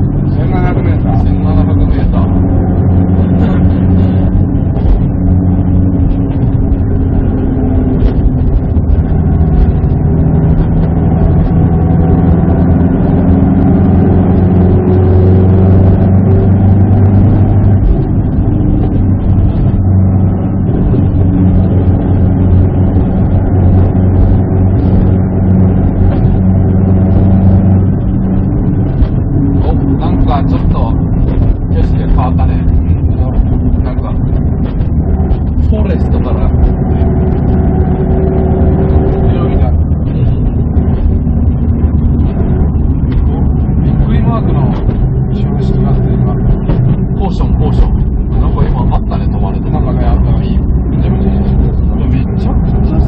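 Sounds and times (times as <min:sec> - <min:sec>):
car engine running: 0:00.0 - 0:53.0
road noise: 0:00.0 - 0:53.0.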